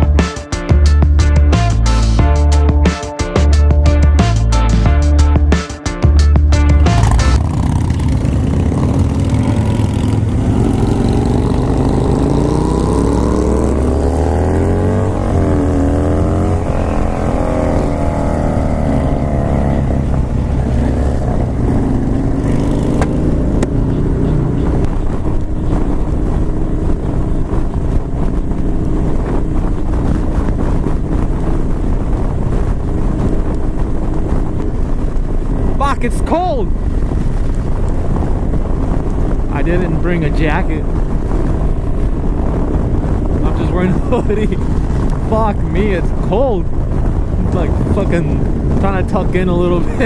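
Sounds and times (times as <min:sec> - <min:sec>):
motorcycle engine accelerating: 0:00.0 - 0:35.9, 0:36.6 - 0:50.0.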